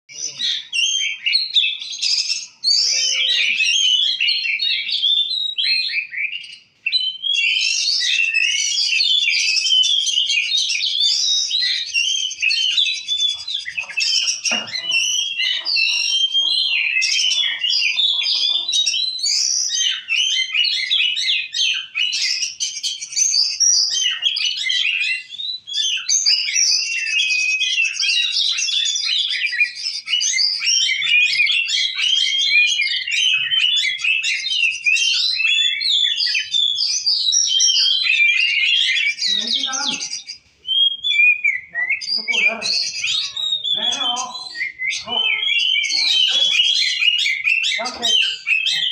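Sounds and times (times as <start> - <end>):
bird singing varied song: 0.0 - 48.9.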